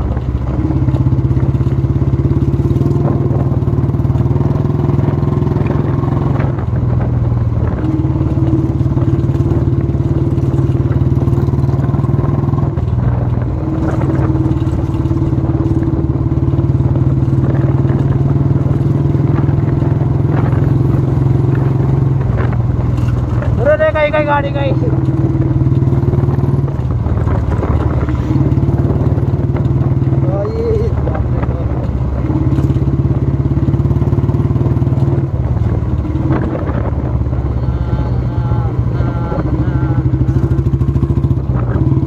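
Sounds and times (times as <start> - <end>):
motorcycle engine running: 0.0 - 42.0
motorcycle rattling over bumps: 0.0 - 42.0.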